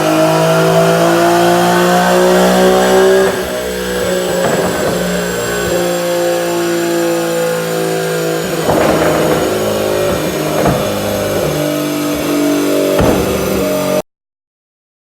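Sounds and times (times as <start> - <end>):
car exhaust drone: 0.0 - 14.0.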